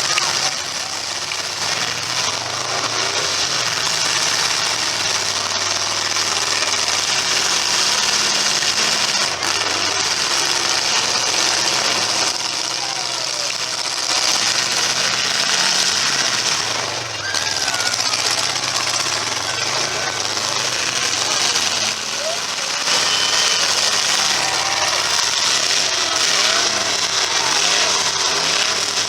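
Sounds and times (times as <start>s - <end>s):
car engines running together: 0.0s - 29.0s
hissing noise: 0.0s - 29.0s.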